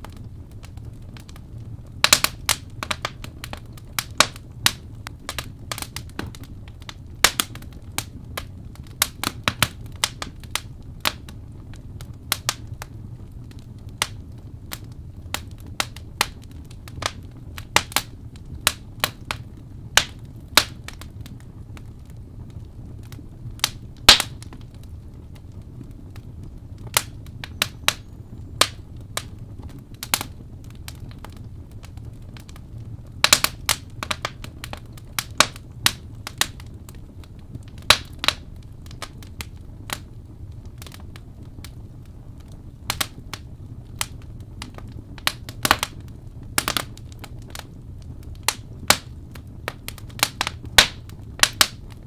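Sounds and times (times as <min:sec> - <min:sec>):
low steady rumble: 0:00.0 - 0:52.0
wood fire crackling and popping: 0:00.0 - 0:52.0.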